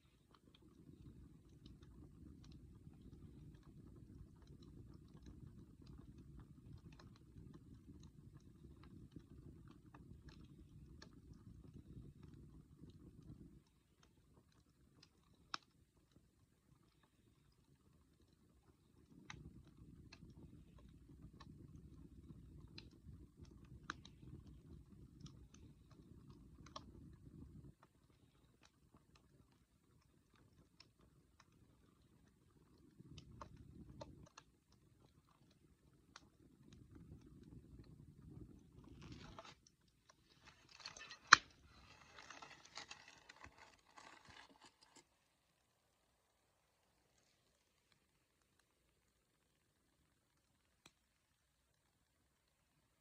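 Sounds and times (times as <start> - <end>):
campfire crackling and popping: 0.0 - 53.0
faint low rumble: 0.0 - 53.0.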